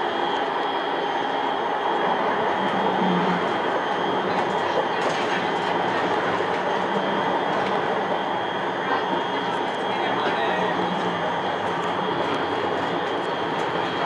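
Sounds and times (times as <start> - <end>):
tram wheels rolling on rail: 0.0 - 14.0.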